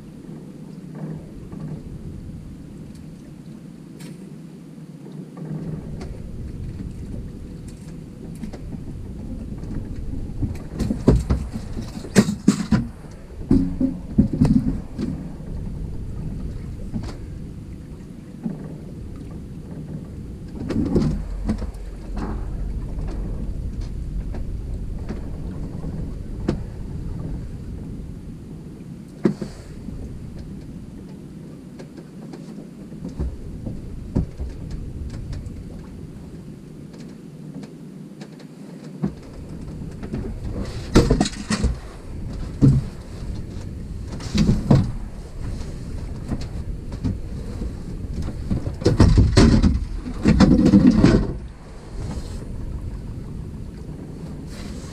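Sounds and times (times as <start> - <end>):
wind rumble: 0.0 - 54.9.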